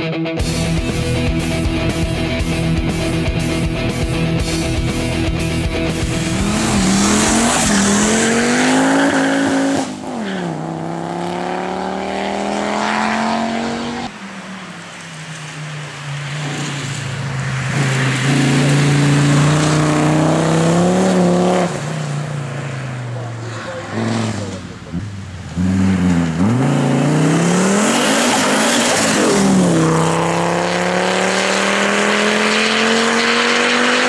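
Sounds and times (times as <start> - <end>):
car engine accelerating hard: 0.8 - 14.2, 15.8 - 34.0.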